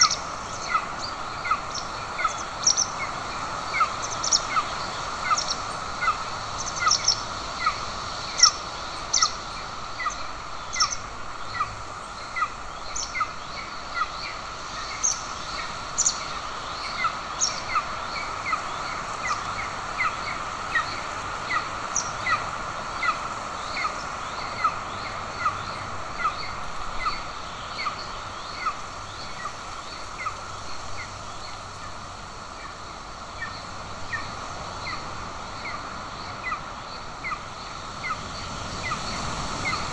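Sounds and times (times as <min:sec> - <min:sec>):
microphone hiss: 0:00.0 - 0:39.9.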